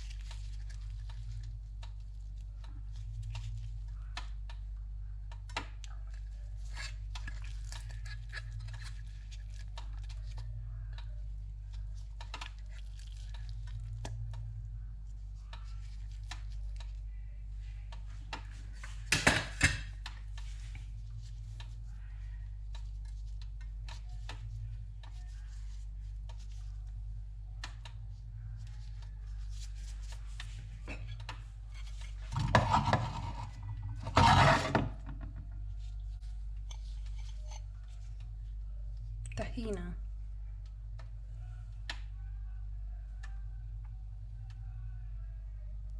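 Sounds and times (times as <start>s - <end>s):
low hum: 0.0s - 19.1s, 19.8s - 45.9s.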